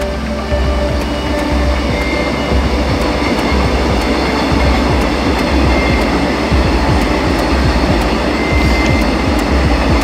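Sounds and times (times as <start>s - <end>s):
train rail noise: 0.0s - 10.0s
wheels clicking over track: 0.0s - 10.0s.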